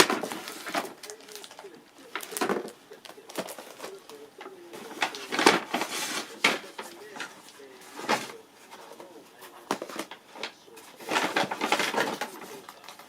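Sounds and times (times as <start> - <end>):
crinkling rustling handling noises: 0.0 - 13.0.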